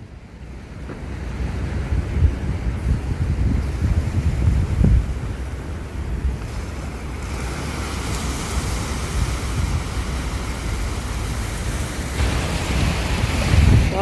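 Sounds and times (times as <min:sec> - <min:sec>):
wind buffeting microphone: 0:00.0 - 0:14.0
waves washing onto beach: 0:00.2 - 0:14.0.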